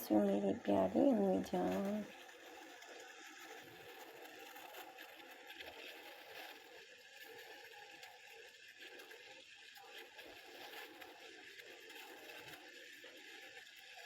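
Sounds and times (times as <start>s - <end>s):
fine crackle: 0.0s - 14.0s
pot simmering with faint hiss: 0.0s - 14.0s.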